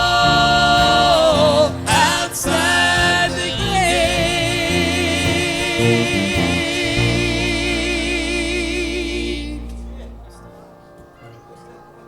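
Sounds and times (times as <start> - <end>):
gospel singers with vibrato: 0.0 - 10.8
instrumental accompaniment: 0.0 - 12.0.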